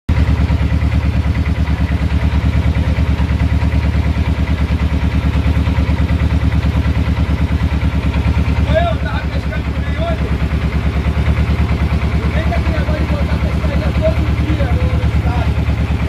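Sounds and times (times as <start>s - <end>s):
boat engine chugging: 0.1s - 16.0s.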